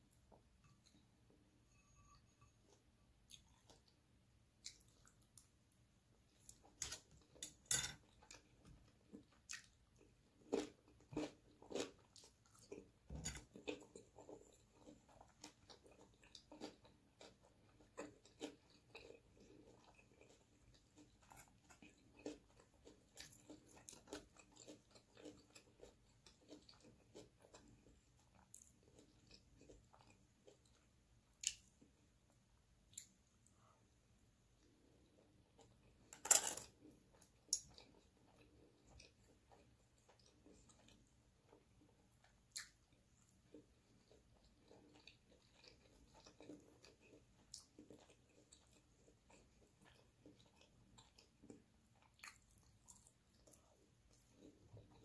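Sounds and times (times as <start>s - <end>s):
chewing and mouth sounds: 4.6s - 31.9s, 36.6s - 55.0s.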